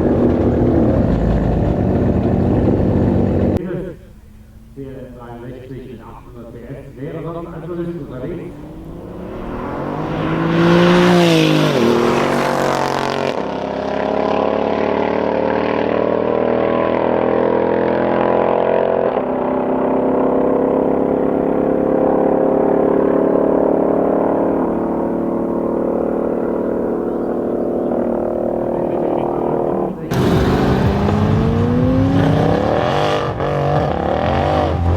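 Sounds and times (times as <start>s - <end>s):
car engine revving: 0.0s - 3.6s, 7.5s - 34.9s.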